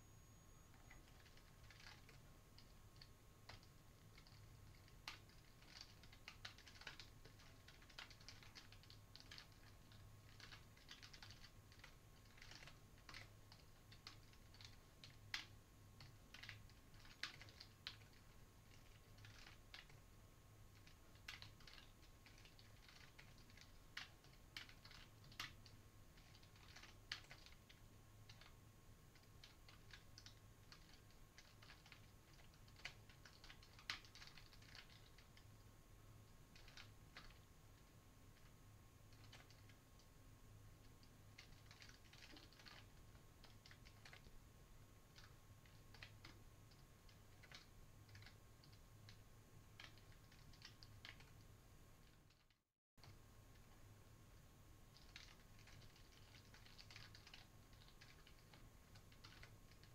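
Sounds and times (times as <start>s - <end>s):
typing on computer keyboard: 0.0s - 20.0s, 20.7s - 35.6s, 36.2s - 40.1s, 40.8s - 44.4s, 45.0s - 53.7s, 54.9s - 59.9s
low steady hum: 0.0s - 52.4s.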